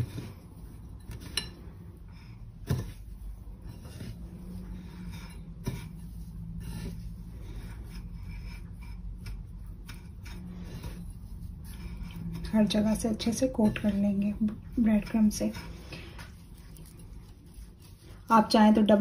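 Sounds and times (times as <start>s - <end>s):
breadcrumbs rustling: 0.0s - 19.0s.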